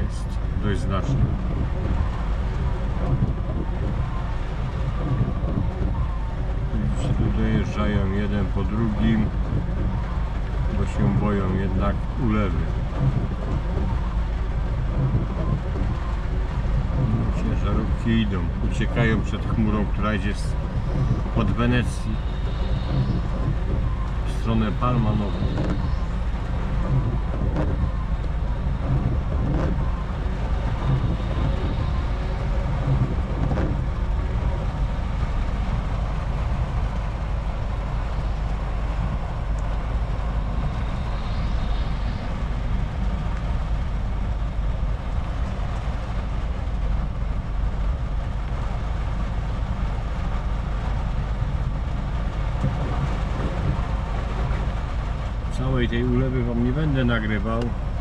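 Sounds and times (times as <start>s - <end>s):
heavy rain on a windscreen: 0.0s - 58.0s
truck engine rumbling: 0.0s - 58.0s.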